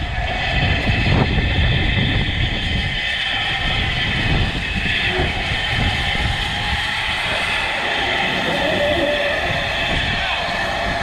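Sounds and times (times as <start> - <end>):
high ringing whine: 0.0 - 11.0.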